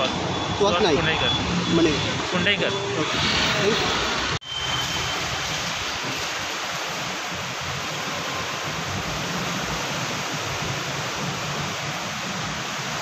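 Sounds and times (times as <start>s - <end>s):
floodwater rushing and sloshing: 0.0s - 13.0s.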